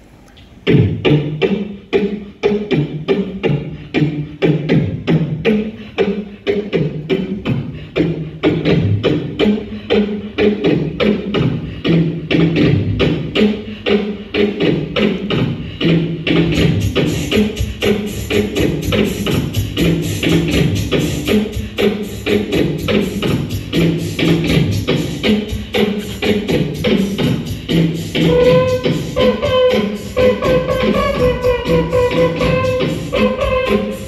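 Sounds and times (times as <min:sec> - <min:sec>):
beatboxing into a microphone: 0:00.0 - 0:34.0.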